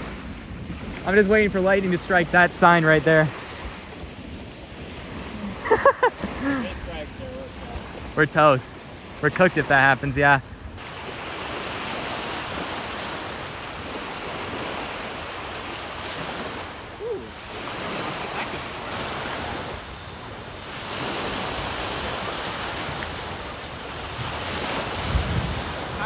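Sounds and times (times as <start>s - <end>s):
waves breaking on sandy shore: 0.0s - 26.0s.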